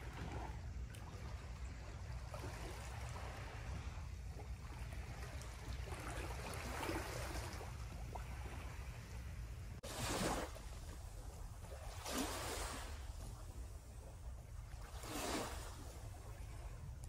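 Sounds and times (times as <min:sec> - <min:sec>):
water lapping over stones: 0:00.0 - 0:17.0.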